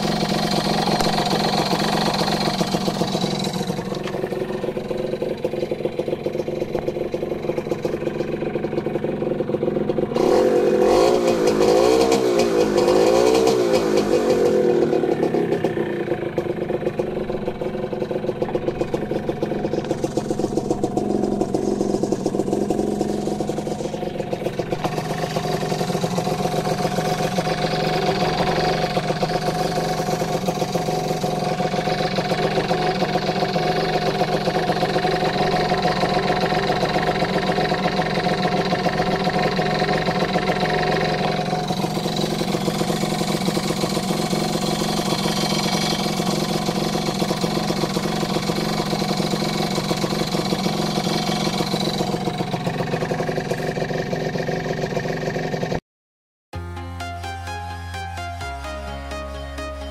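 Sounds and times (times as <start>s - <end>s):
two-stroke engine idling and revving: 0.0s - 55.8s.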